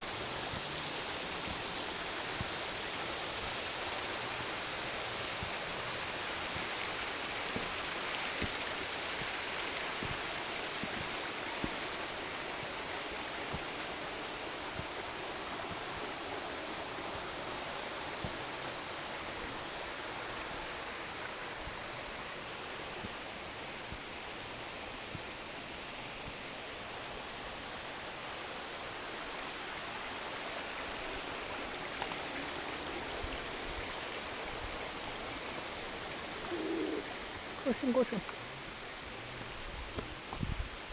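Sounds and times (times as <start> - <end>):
rushing flowing water: 0.0 - 40.9.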